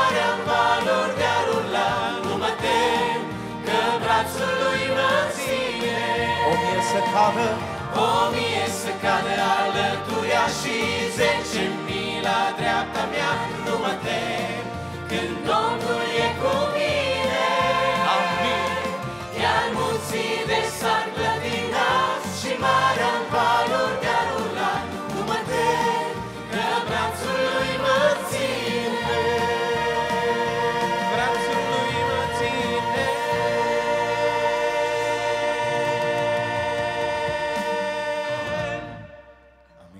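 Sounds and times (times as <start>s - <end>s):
vocal group singing worship song: 0.0s - 39.4s.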